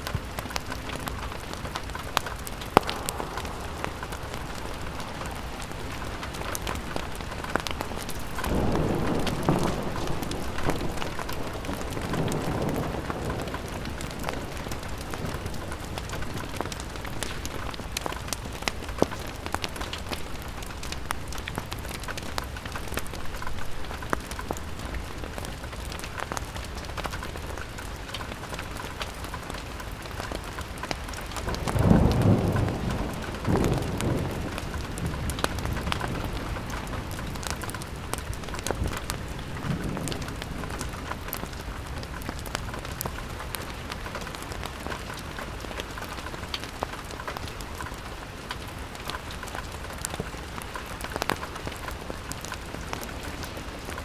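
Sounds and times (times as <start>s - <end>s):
thunder rumbling: 0.0s - 27.6s, 31.0s - 54.0s
rain on a window: 0.0s - 54.0s
sharp drips and crackles: 0.0s - 54.0s.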